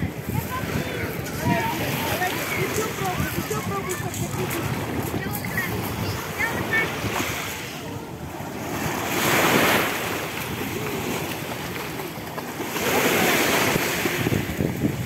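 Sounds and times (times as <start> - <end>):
waves washing on pebbles: 0.0 - 15.0
wind buffeting microphone: 0.0 - 15.0.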